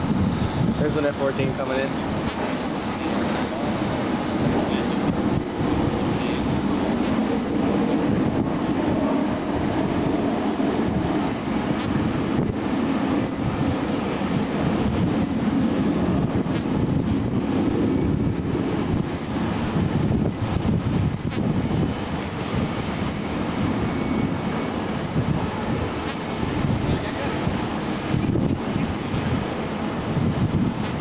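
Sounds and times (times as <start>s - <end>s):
distant jet fighter flying past: 1.7s - 31.0s.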